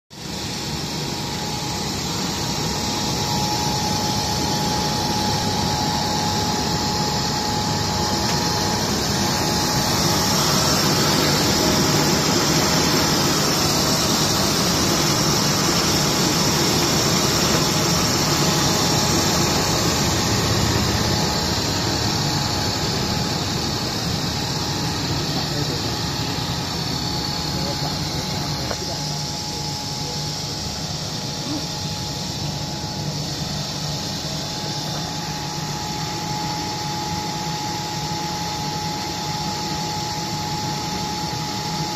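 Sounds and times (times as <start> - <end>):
machinery mechanical drone: 0.1 - 41.9
thin steady whine: 0.1 - 41.9.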